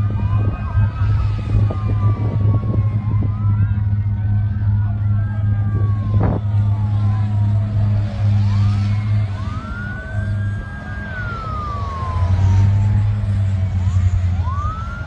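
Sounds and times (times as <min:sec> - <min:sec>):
low hum: 0:00.0 - 0:15.0
sirens wailing: 0:00.0 - 0:15.0.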